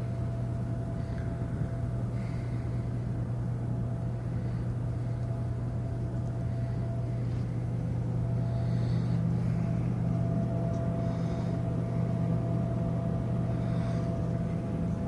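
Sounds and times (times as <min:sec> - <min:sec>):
faint constant hum: 0:00.0 - 0:15.0
low machinery rumble: 0:00.0 - 0:15.0.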